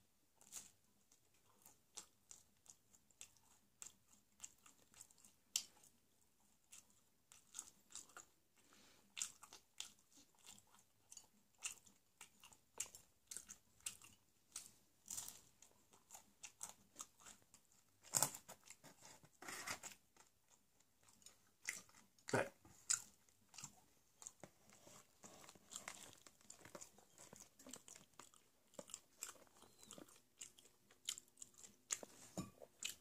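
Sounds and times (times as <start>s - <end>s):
chewing and crunching pizza: 0.3s - 33.0s.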